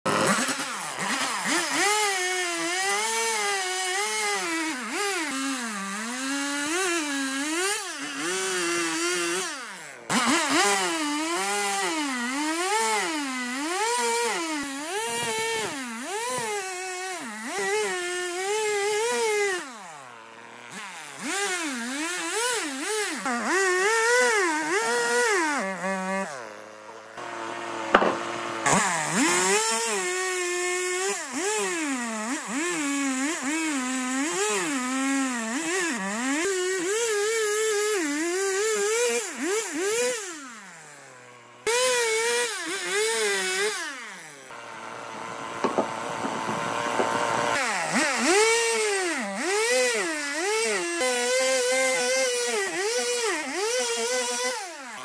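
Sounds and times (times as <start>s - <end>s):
chainsaw cutting wood: 0.1s - 55.0s.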